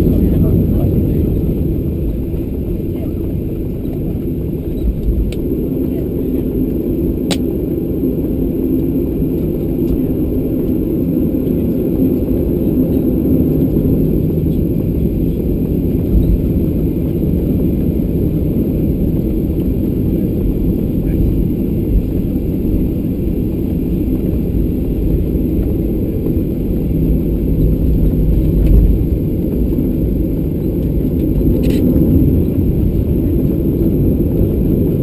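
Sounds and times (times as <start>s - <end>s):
jet engines and wheels rumbling: 0.0s - 35.0s.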